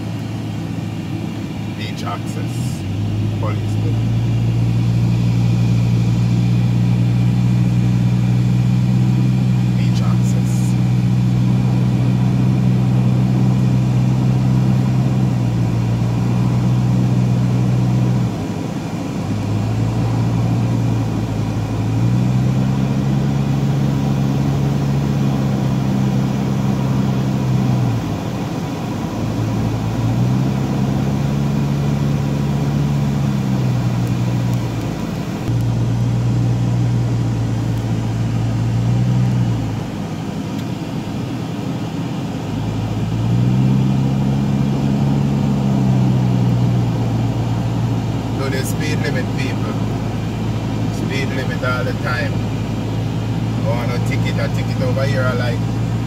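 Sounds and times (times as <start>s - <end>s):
car engine hum inside cabin: 0.0s - 56.0s.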